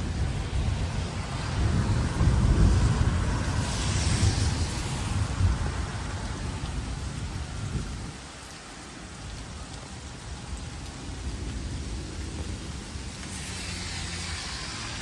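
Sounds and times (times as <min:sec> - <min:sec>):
thunder rumbling: 0:00.0 - 0:08.2, 0:10.1 - 0:15.0
steady rain: 0:00.0 - 0:15.0.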